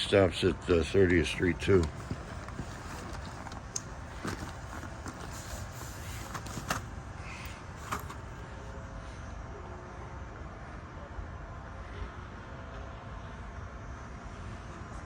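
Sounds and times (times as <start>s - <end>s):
low rumble and hum of rail station: 0.0s - 15.0s.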